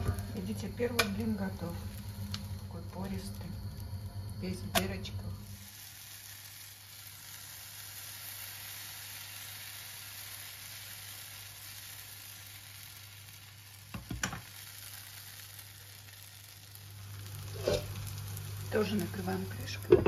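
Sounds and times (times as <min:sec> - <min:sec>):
batter sizzling in a hot pan: 0:00.0 - 0:20.0.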